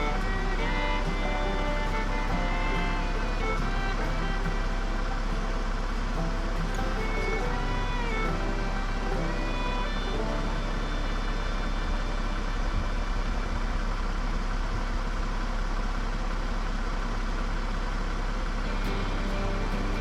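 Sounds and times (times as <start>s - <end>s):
car driving road noise: 0.0s - 20.0s.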